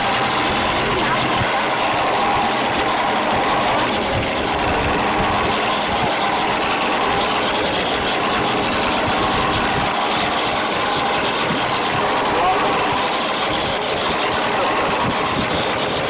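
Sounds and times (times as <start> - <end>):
boat engine running: 0.0 - 16.0
rush of wind and water: 0.0 - 16.0.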